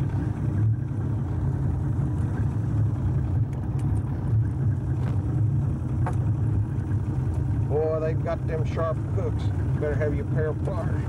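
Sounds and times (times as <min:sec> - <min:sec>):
outboard motor droning: 0:00.0 - 0:11.0.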